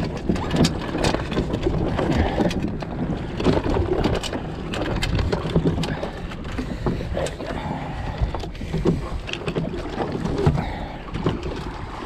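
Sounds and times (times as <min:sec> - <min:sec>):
water slapping against boat hull: 0:00.0 - 0:12.0
wind buffeting microphone: 0:00.0 - 0:12.0.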